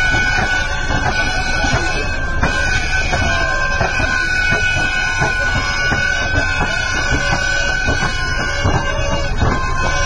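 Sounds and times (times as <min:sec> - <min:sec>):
constant high tone: 0:00.0 - 0:10.0
irregular knocks: 0:00.0 - 0:10.0
loud steady rumble: 0:00.0 - 0:10.0.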